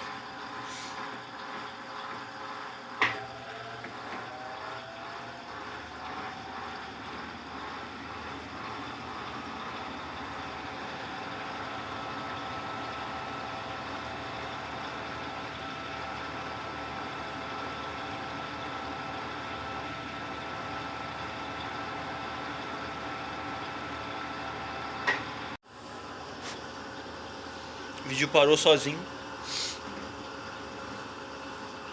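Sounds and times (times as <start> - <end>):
washing machine motor hum: 0.0 - 31.9.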